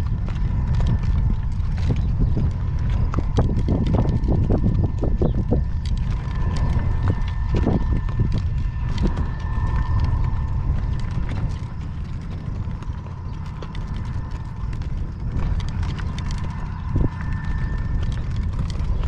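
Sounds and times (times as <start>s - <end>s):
faint steady whine: 0.0s - 19.0s
horse hooves clip-clopping: 0.0s - 19.0s
wind rumble on microphone: 0.0s - 19.0s.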